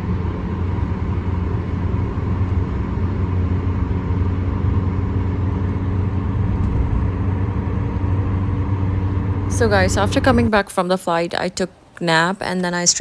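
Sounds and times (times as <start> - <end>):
low engine hum: 0.0 - 11.7
road noise: 0.0 - 13.0.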